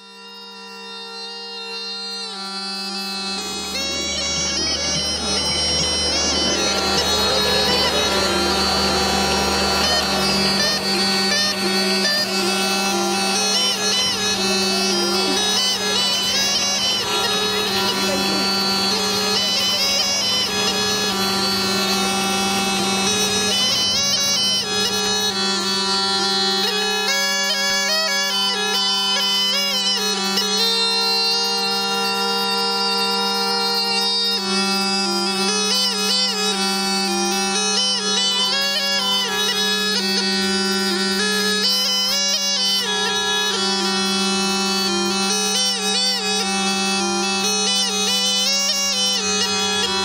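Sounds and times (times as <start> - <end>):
reed pipe melody with drone: 0.0 - 50.0.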